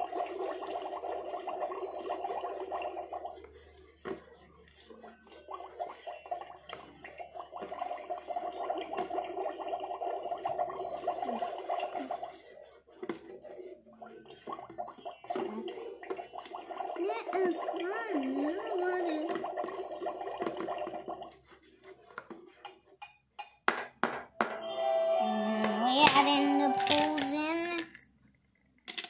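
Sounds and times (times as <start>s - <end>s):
toy cauldron bubbling and gurgling: 0.0s - 23.2s, 25.8s - 28.9s.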